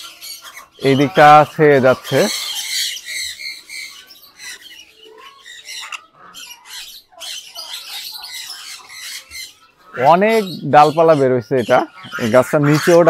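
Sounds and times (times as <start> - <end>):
birds squawking and chirping: 0.0 - 13.0.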